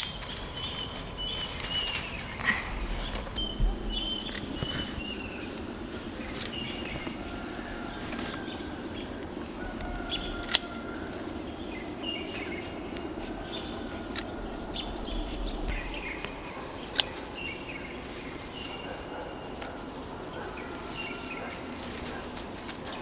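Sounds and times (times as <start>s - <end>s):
birds chirping: 0.0s - 23.0s
steady background noise: 0.0s - 23.0s.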